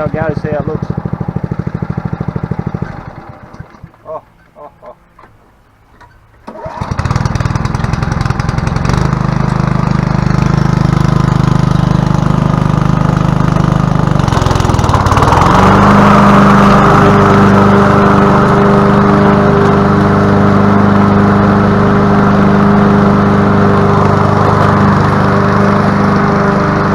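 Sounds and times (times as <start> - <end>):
lawn mower engine running: 0.0 - 4.3, 5.9 - 26.9.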